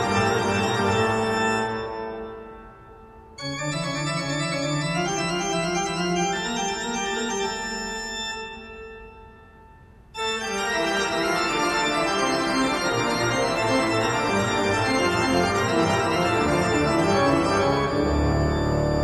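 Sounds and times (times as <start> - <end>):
organ-like keyboard music: 0.0 - 19.0.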